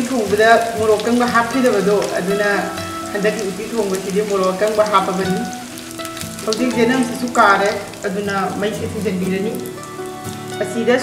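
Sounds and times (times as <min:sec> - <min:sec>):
background music with melody: 0:00.0 - 0:11.0
hot oil sizzling and crackling: 0:00.0 - 0:11.0.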